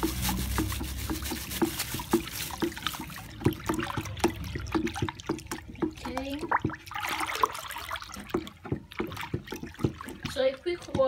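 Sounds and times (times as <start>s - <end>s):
stick knocking in a bucket: 0.0s - 11.0s
water sloshing in a bucket: 0.0s - 11.0s.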